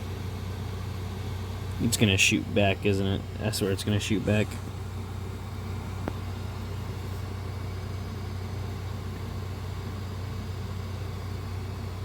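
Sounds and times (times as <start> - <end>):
three-d printer fans humming: 0.0 - 12.0.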